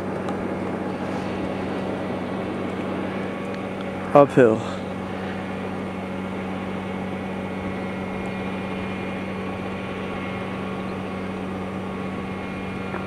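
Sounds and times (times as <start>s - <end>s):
low mechanical motor hum: 0.0s - 13.0s.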